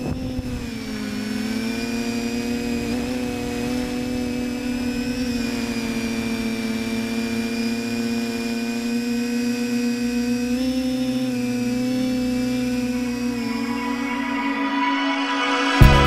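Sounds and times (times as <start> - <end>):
quadcopter propellers whirring: 0.0 - 16.0.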